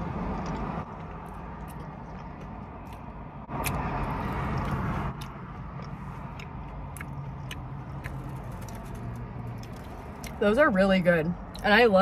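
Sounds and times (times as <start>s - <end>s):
chewing and biting food: 0.0s - 10.4s
traffic hum: 0.0s - 12.0s.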